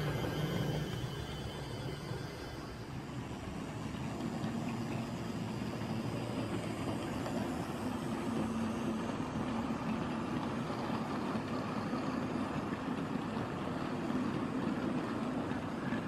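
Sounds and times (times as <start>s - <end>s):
model train motor whirring: 0.0s - 16.0s
wagons rolling over track: 0.0s - 16.0s.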